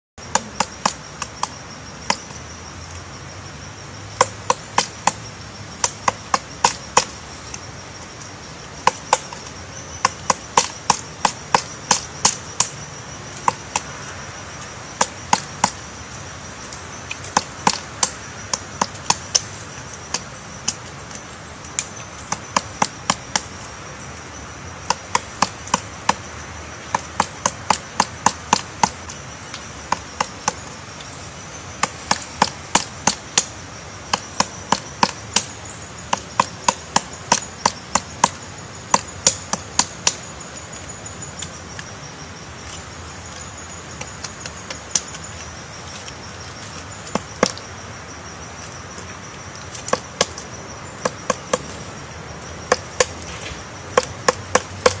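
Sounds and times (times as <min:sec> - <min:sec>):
woodpecker pecking wood: 0:00.2 - 0:02.4, 0:04.1 - 0:23.7, 0:24.7 - 0:47.9, 0:48.6 - 0:55.0.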